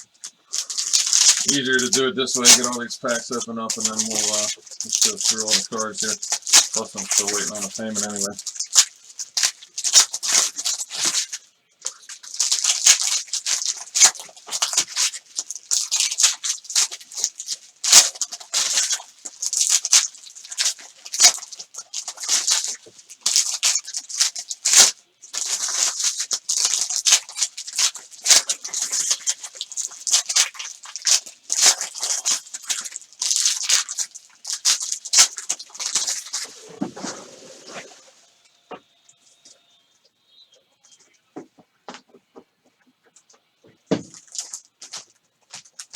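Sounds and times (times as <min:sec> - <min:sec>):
cards rustling: 0:00.0 - 0:38.6, 0:43.0 - 0:45.9
wrappers tearing and crinkling: 0:00.0 - 0:38.6, 0:43.9 - 0:45.9.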